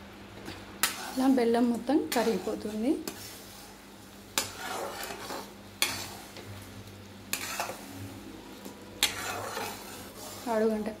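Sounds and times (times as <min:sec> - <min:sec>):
syrup bubbling and sizzling: 0:00.5 - 0:11.0
spatula scraping pan: 0:00.8 - 0:06.6, 0:07.2 - 0:11.0.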